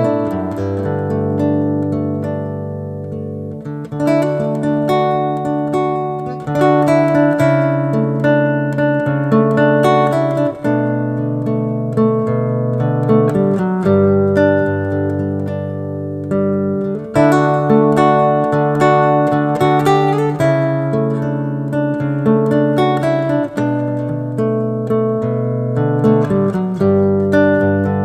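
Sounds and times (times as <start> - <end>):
acoustic guitar chords: 0.0 - 28.0.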